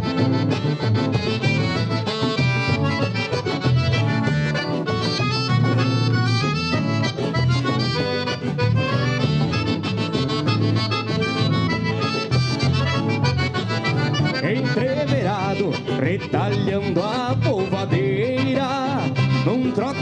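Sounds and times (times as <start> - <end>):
accordion playing fast notes: 0.0 - 20.0
bass and rhythm backing: 0.0 - 20.0.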